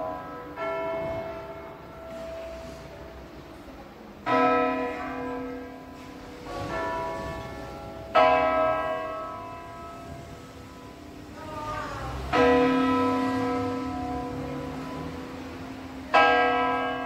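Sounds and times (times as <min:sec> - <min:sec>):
church bells ringing: 0:00.0 - 0:03.4, 0:04.1 - 0:17.0.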